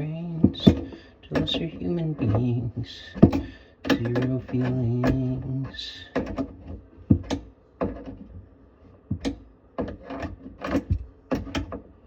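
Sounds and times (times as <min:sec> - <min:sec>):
knocks and clunks of plumbing tools: 0:00.0 - 0:12.0.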